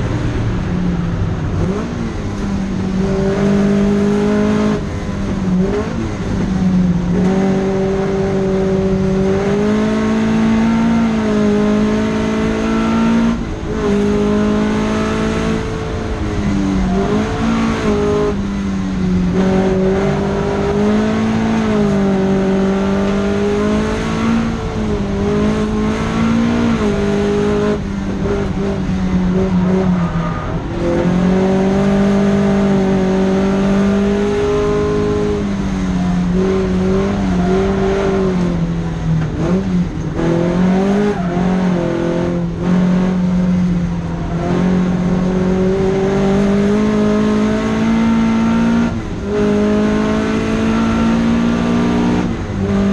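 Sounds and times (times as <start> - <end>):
car engine revving with gear changes: 0.0 - 52.9.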